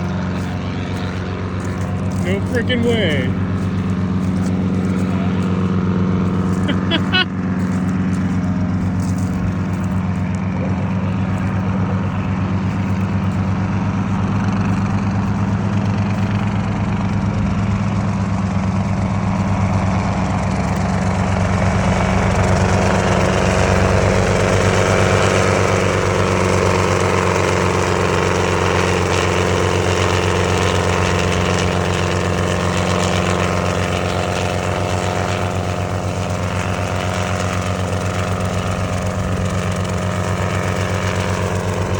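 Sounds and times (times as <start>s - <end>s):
helicopter rotor beat: 0.0s - 41.9s
helicopter turbine whine: 0.0s - 41.9s.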